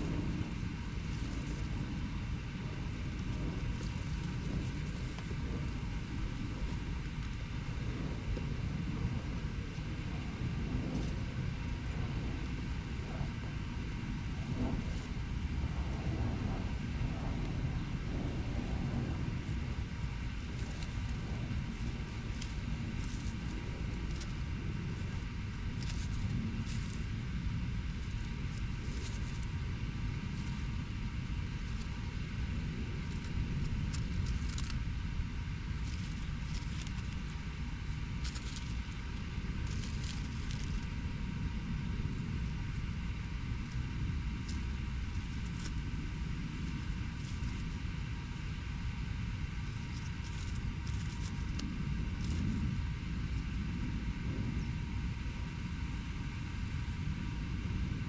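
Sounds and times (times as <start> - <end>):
distant road traffic rumble: 0.0 - 56.0
faint multi-tone hum: 0.0 - 58.0.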